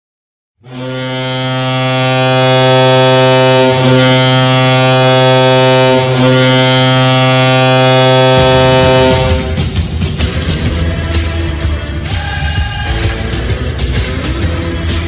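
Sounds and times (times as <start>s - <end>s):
goal horn blast: 0.6s - 15.0s.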